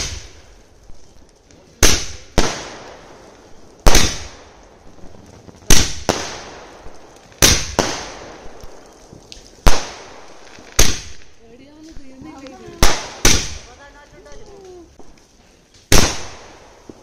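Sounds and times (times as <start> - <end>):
firecrackers banging: 0.0 - 17.0.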